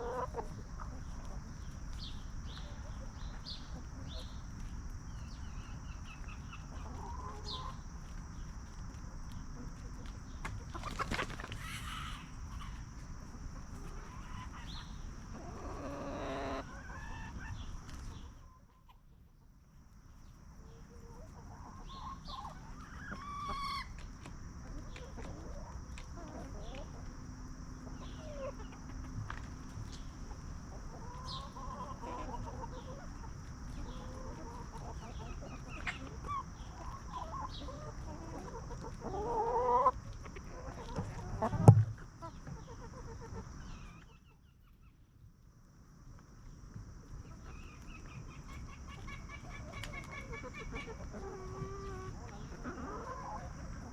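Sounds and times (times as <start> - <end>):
hens clucking: 0.0 - 45.0, 46.5 - 53.9.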